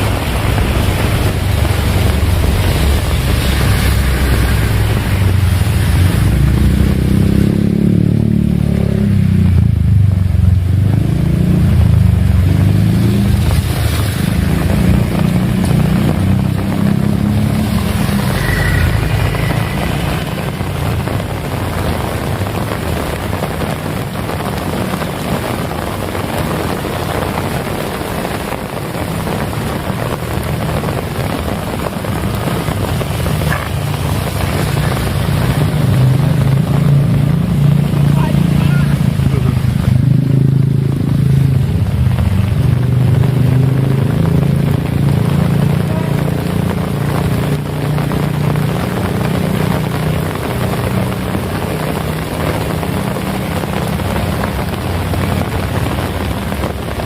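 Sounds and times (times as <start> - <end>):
deep rumble: 0.0 - 57.0
heavy rain: 0.0 - 57.0.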